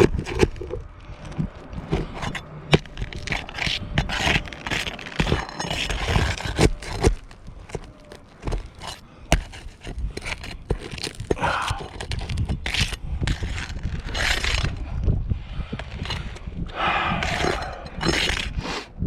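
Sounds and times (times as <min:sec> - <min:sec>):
shingle scraping and crunching: 0:00.0 - 0:19.0.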